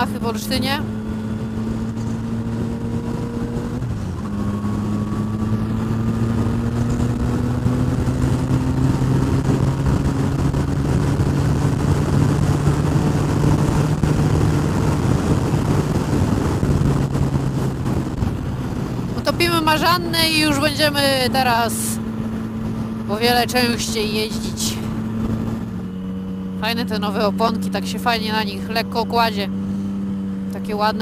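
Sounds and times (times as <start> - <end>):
motorcycle engine: 0.0 - 31.0
wind rushing: 0.5 - 28.8.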